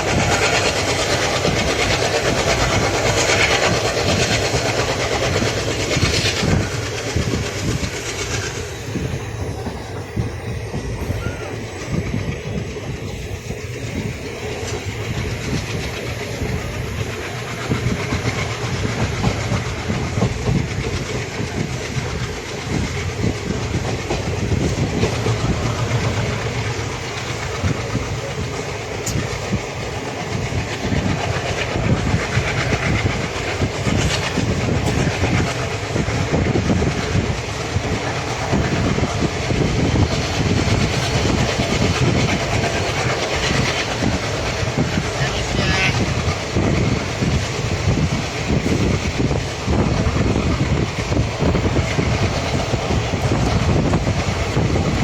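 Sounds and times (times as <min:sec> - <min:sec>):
train wheel and track rumble: 0:00.0 - 0:55.0.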